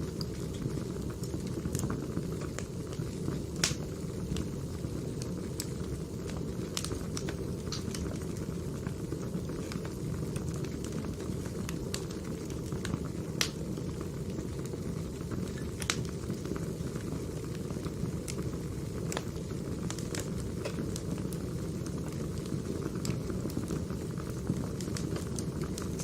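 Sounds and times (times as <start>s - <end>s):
firewood crackling and popping: 0.0s - 26.0s
low rush of flames: 0.0s - 26.0s.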